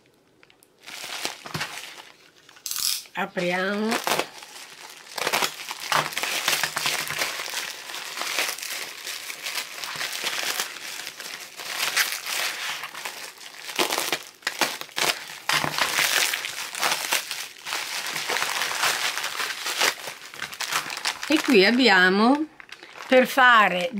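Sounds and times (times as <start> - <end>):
bubble wrap crinkling: 0.0 - 23.9.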